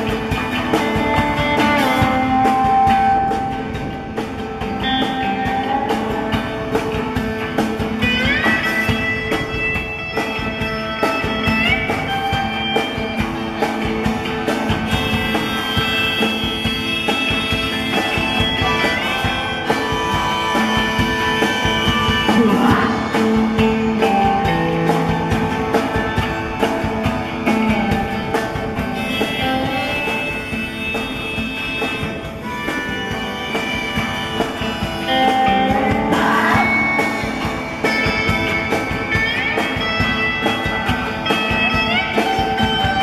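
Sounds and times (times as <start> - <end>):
guitar notes sliding up: 0.0 - 43.0
instrumental rock music: 0.0 - 43.0.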